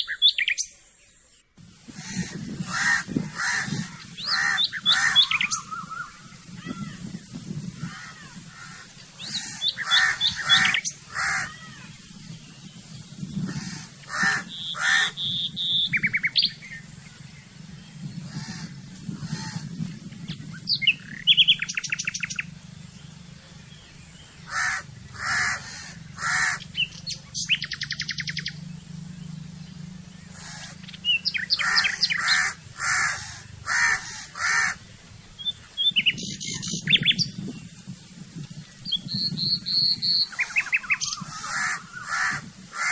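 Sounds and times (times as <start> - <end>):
bird trills and chirps: 0.0 - 42.9
birds calling harshly: 0.0 - 42.9
steady low hum: 1.4 - 42.8.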